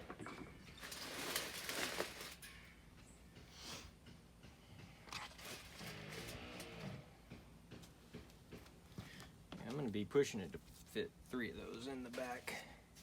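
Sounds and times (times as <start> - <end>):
rustling and scraping of plant pots: 0.0 - 7.1, 8.9 - 13.0.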